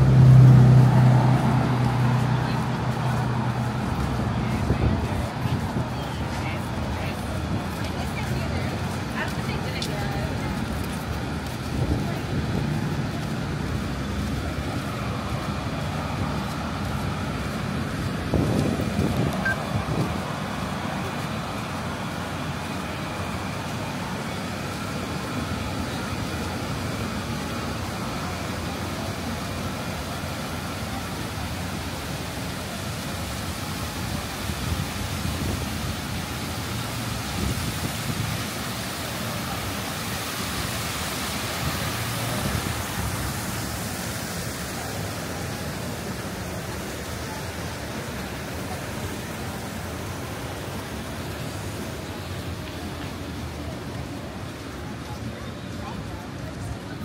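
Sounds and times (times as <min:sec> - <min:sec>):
passing traffic: 0:00.0 - 0:57.0.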